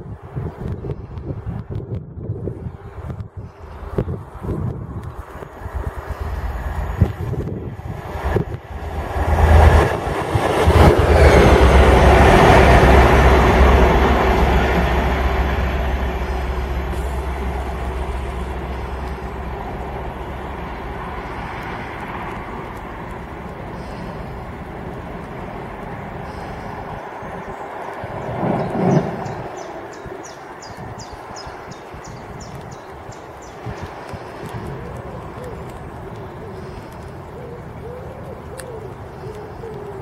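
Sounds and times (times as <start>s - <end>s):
diesel locomotive engine rumbling: 0.0s - 40.0s.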